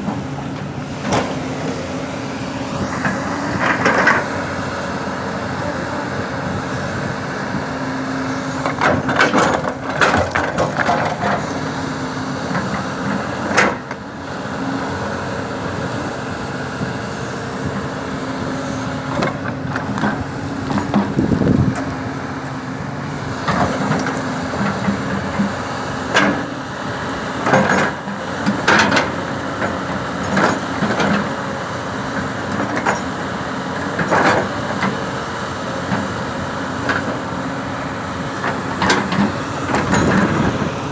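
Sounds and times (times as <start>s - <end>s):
diesel construction machinery running: 0.0s - 40.9s.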